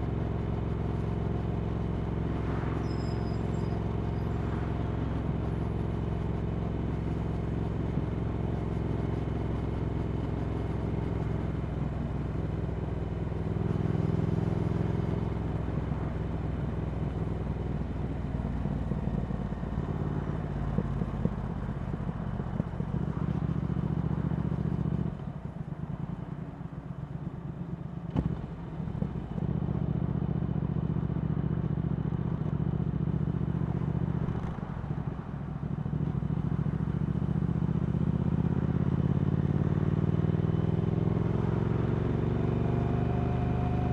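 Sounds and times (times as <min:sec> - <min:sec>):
motorcycle engine riding: 0:03.9 - 0:43.9.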